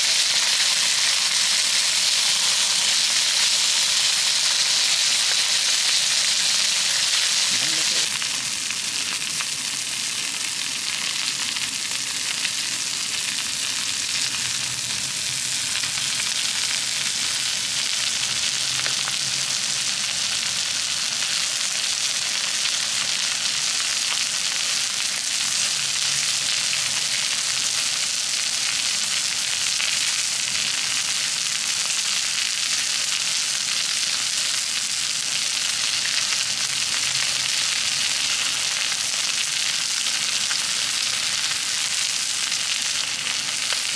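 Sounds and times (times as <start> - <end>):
meat sizzling on griddle: 0.0 - 43.9.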